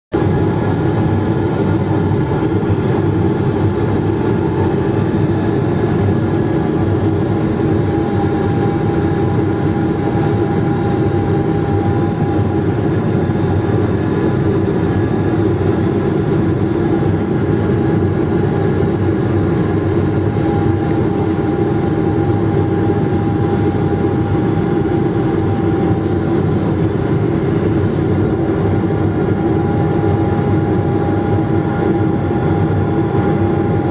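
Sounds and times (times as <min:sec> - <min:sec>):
jet engine rumble: 0:00.1 - 0:33.9.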